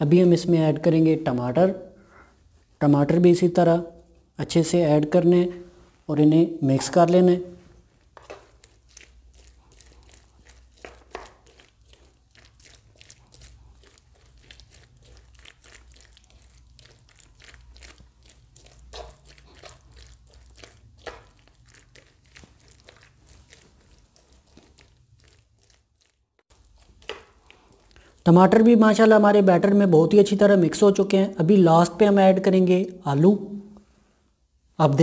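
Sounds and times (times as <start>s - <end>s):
batter squishing by hand: 0.0s - 35.0s.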